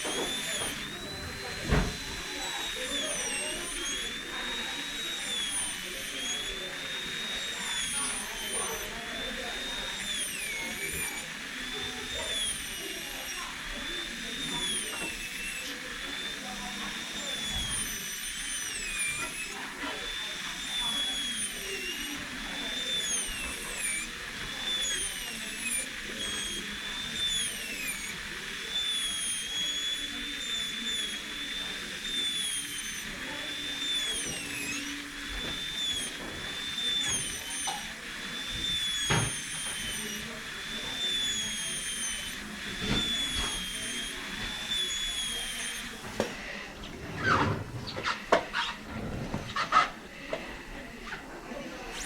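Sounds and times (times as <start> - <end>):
small motor whining: 0.0 - 52.0.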